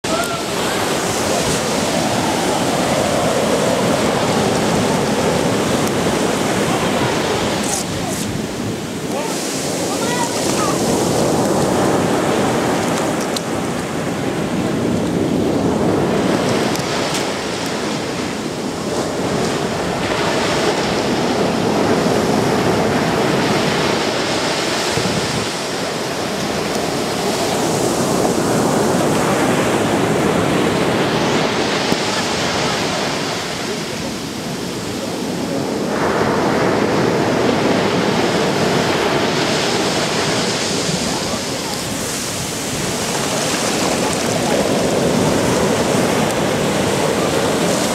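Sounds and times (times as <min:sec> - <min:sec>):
surf washing up a pebble beach: 0:00.0 - 0:47.9.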